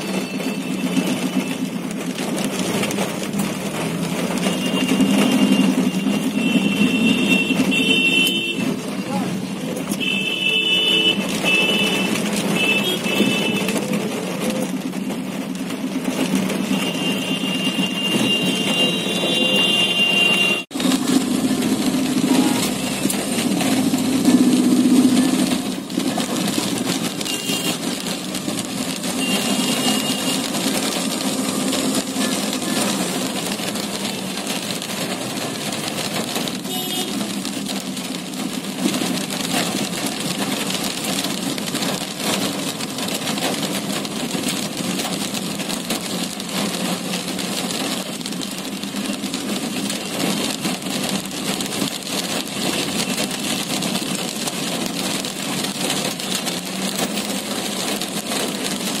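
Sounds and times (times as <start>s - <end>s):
rain on a car roof: 0.0s - 59.0s.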